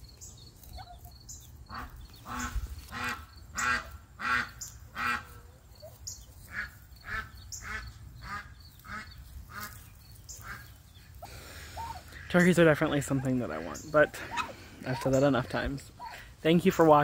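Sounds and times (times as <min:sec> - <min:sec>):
turkeys calling: 0:00.0 - 0:17.0.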